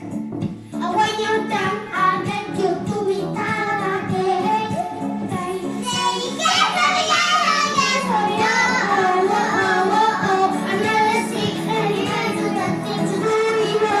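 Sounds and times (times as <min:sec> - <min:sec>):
pop song instrumental backing: 0:00.0 - 0:14.0
high voice singing wordless notes: 0:00.8 - 0:14.0.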